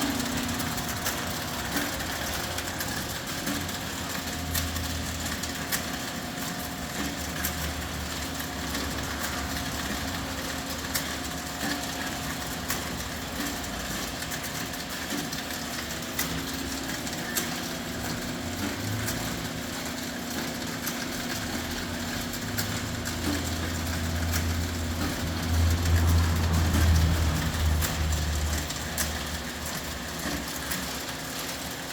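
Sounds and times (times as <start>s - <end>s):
conveyor machine humming: 0.0s - 31.9s.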